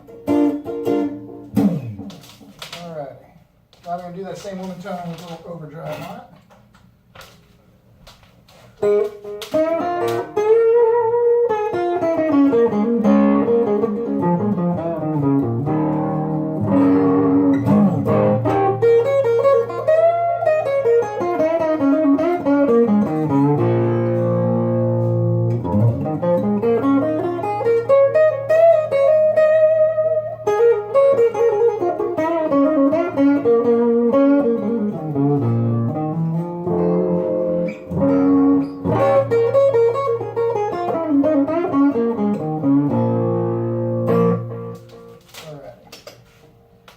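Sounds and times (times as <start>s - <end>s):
overdriven electric guitar lead: 0.0s - 2.8s, 8.8s - 45.2s.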